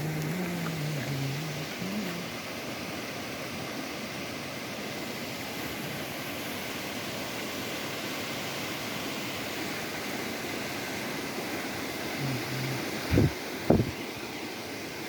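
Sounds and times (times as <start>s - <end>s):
mountain river rushing: 0.0s - 15.0s.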